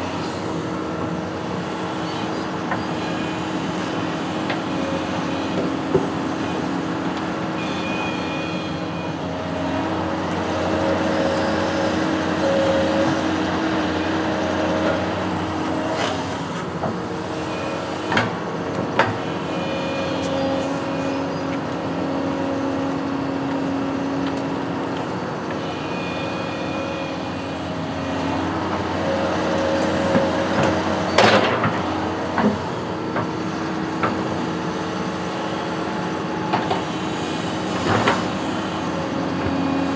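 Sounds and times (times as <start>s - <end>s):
construction machine engine running: 0.0s - 39.9s.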